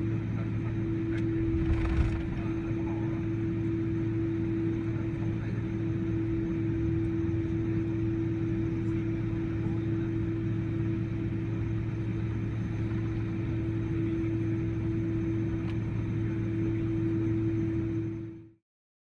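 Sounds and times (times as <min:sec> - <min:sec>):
jet engines humming: 0:00.0 - 0:17.9.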